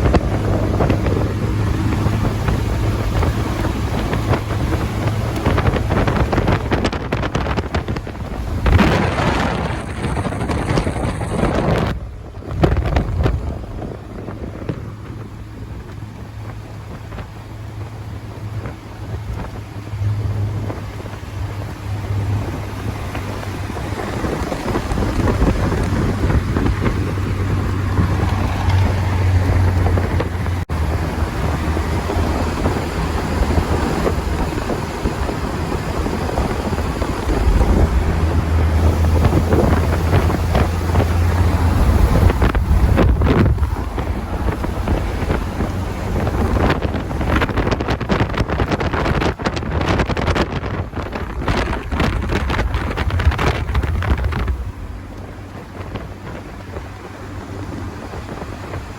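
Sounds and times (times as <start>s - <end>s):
car engine droning: 0.0s - 58.9s
wind on microphone: 0.0s - 58.9s.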